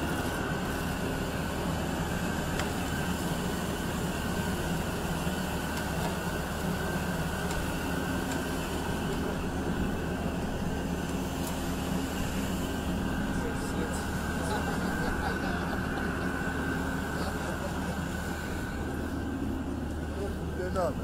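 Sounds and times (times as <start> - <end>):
machine drone with high whine: 0.0 - 21.0.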